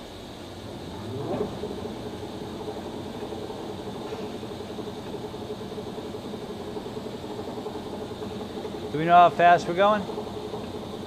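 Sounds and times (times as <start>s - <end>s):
lathe humming: 0.2s - 11.0s.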